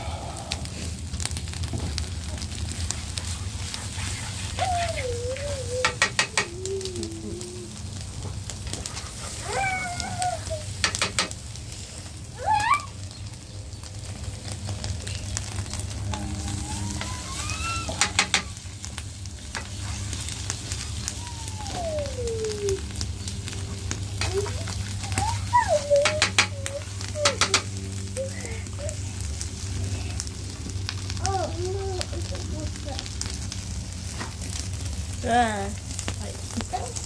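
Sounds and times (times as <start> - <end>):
food sizzling in a pan: 0.0 - 37.0.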